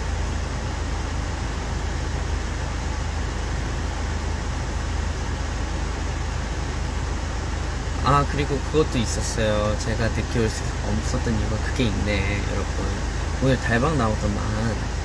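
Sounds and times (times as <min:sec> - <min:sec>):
car cabin engine and road noise: 0:00.0 - 0:15.0.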